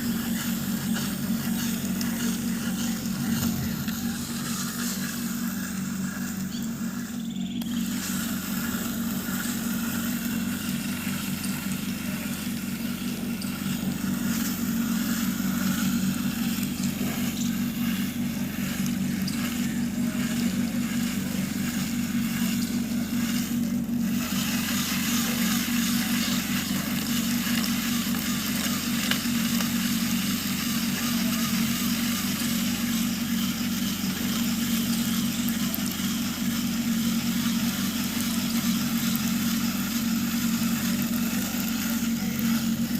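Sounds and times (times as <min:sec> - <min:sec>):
electric gear motors humming: 0:00.0 - 0:42.9
hiss and crackle: 0:00.0 - 0:42.9.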